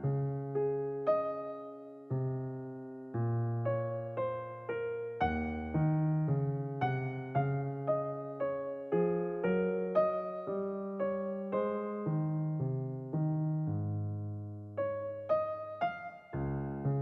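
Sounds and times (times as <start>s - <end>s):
gentle solo piano music: 0.0s - 17.0s.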